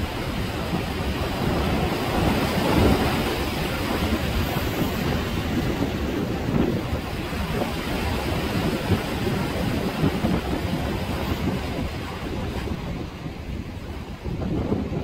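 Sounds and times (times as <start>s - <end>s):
sea waves washing: 0.0s - 15.0s
wind rumbling on microphone: 0.0s - 15.0s.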